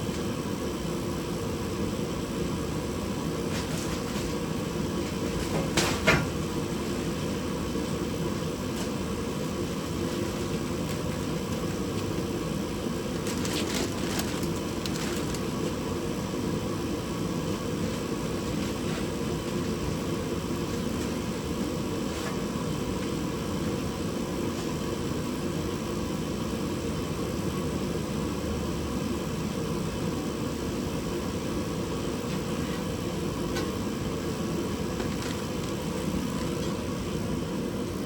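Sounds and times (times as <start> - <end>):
space heater rushing: 0.0 - 38.0.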